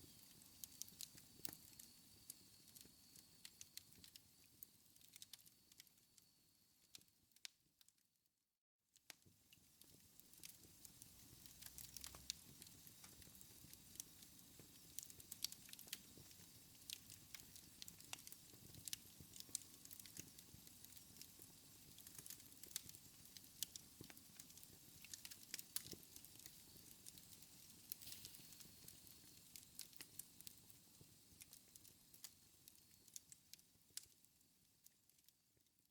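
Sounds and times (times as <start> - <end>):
wood fire crackling: 0.0 - 6.0, 9.0 - 35.4.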